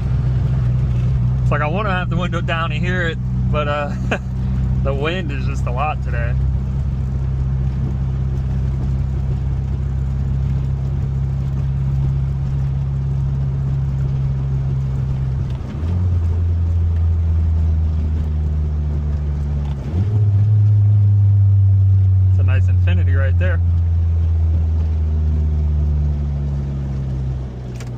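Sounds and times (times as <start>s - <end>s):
car engine heard from inside: 0.0s - 27.9s.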